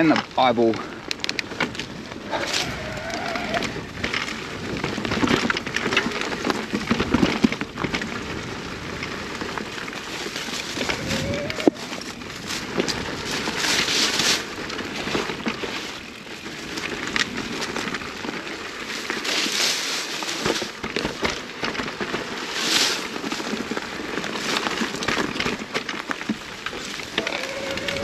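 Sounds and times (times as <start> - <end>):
bike clicks and rattles: 0.0 - 28.0
tyres crackling over dirt: 0.0 - 28.0.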